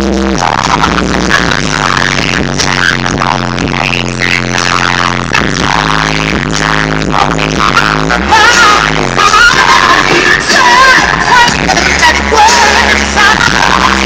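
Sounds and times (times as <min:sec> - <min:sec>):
song with heavy bass: 0:00.0 - 0:14.0.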